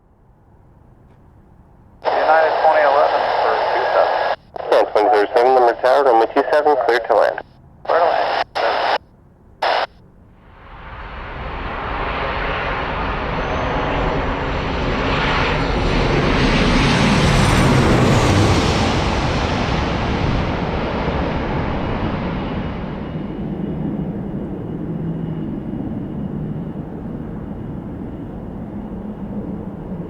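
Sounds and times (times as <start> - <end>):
jet airliner passing: 2.0 - 9.0, 9.6 - 30.0.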